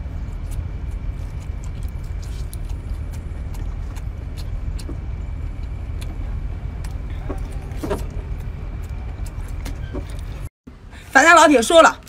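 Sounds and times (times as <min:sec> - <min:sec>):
chewing and lip-smacking: 0:00.0 - 0:10.5
low rumble: 0:00.0 - 0:11.2.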